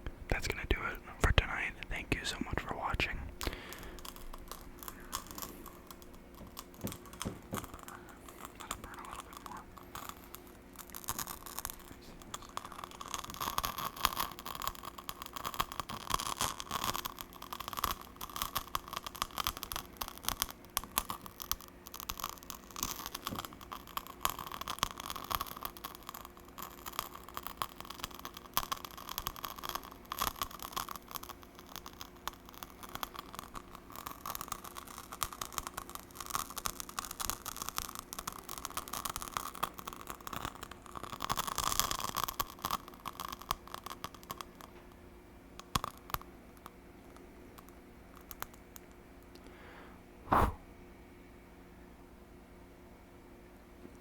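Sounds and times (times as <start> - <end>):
candle crackling: 0.0 - 49.7
faint steady hum: 0.0 - 54.0.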